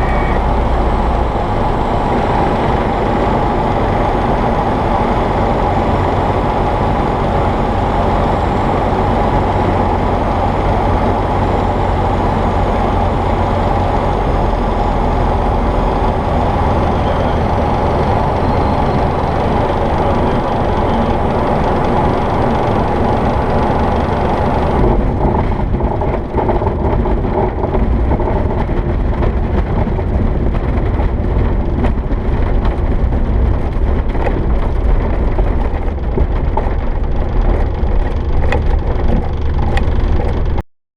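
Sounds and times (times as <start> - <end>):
light aircraft engine and propeller: 0.0 - 40.6.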